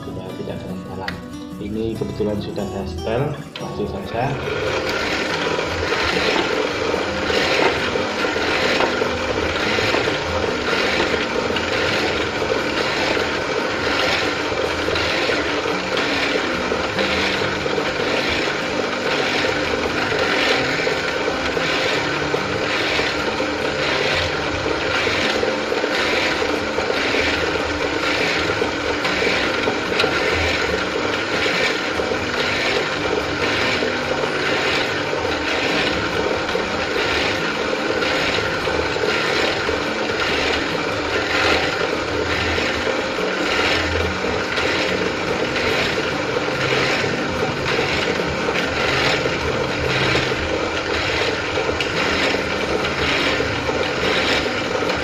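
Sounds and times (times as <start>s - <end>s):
drill press drilling wood: 3.9s - 55.0s.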